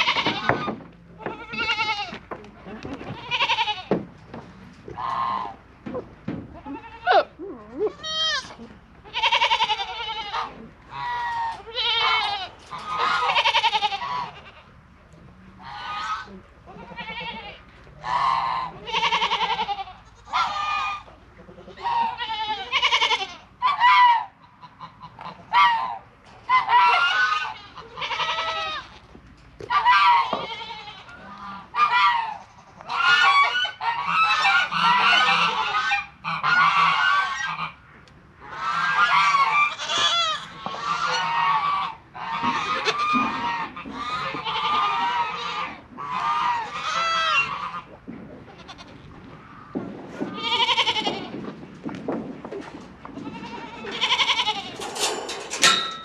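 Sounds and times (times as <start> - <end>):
goats bleating: 0.0 - 4.0, 4.9 - 14.8, 15.6 - 24.2, 26.5 - 37.7, 38.5 - 49.1, 50.2 - 51.5, 53.1 - 56.0.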